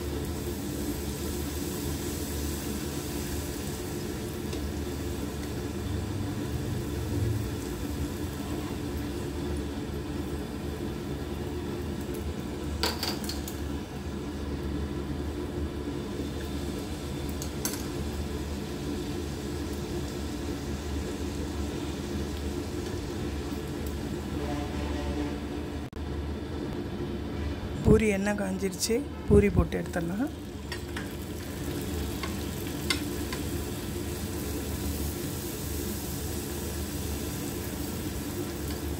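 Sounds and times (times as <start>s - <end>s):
oil sizzling: 0.0s - 26.0s, 29.7s - 38.9s
low even hum: 0.0s - 38.9s.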